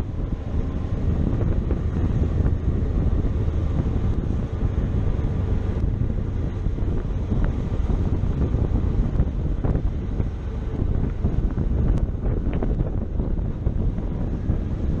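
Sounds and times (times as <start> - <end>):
road noise: 0.0 - 15.0
wind on microphone: 0.0 - 15.0.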